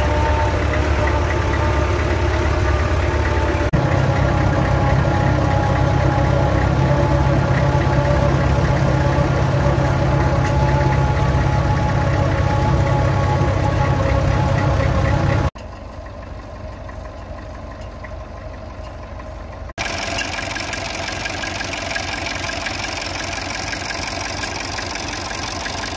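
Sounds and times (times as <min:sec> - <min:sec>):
tractor engine rumbling: 0:00.0 - 0:25.9.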